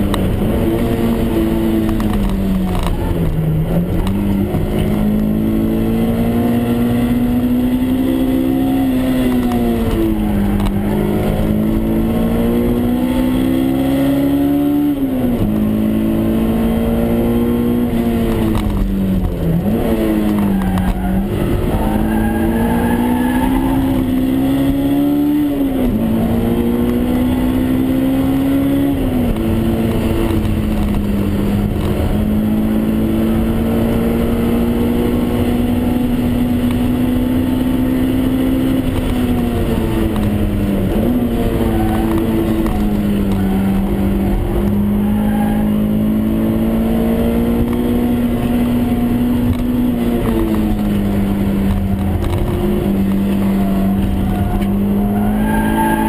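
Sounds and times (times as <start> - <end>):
car engine accelerating through gears: 0.0 - 56.0
road and wind rumble: 0.0 - 56.0.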